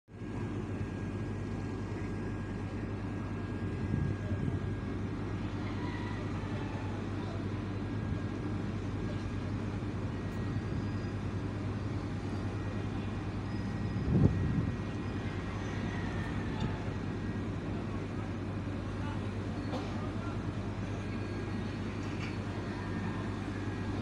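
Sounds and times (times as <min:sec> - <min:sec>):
ferry diesel engines droning: 0:00.1 - 0:24.0.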